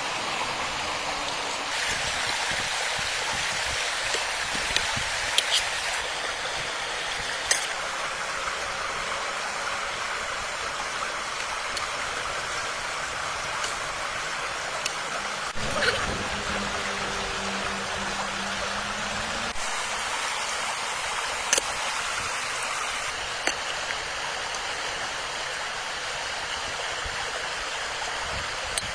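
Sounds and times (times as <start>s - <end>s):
stream water rushing: 0.0s - 28.9s.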